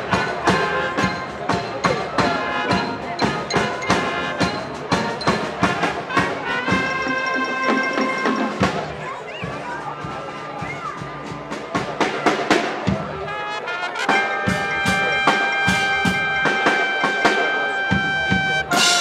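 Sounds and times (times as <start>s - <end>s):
marching band brass: 0.0s - 9.6s, 10.3s - 19.0s
steady drum beat: 0.0s - 19.0s.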